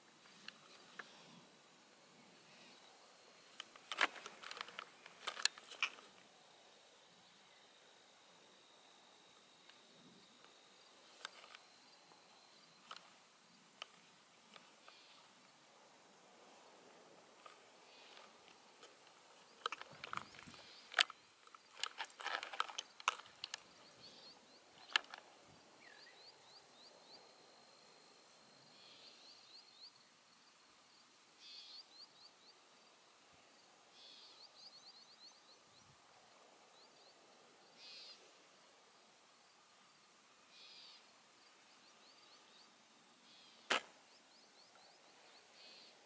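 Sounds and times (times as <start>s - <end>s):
faint steady hiss: 0.0s - 46.0s.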